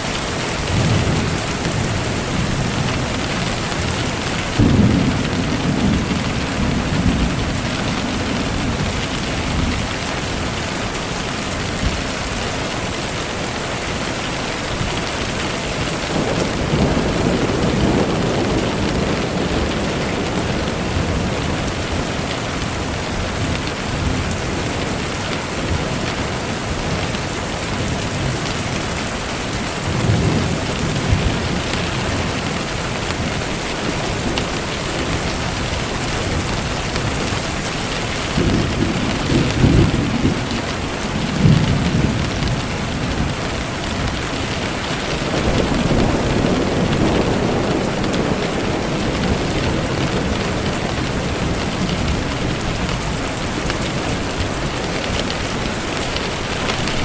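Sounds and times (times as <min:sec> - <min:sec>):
rain falling: 0:00.0 - 0:57.0
thunder rumbling: 0:00.0 - 0:57.0.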